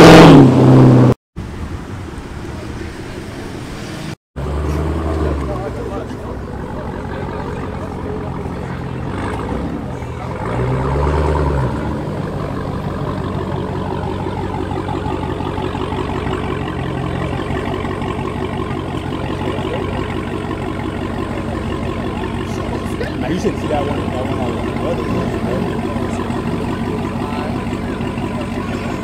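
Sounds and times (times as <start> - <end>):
car engine rumbling past: 0.0 - 29.0.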